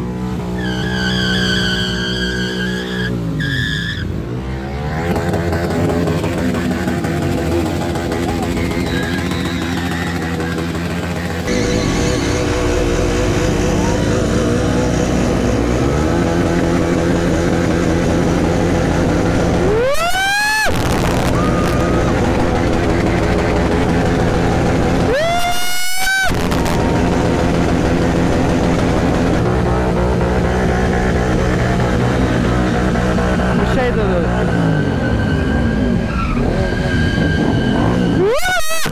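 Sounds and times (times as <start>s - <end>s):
din of running engines: 0.0s - 38.9s
motorcycle engine revving: 0.0s - 38.9s.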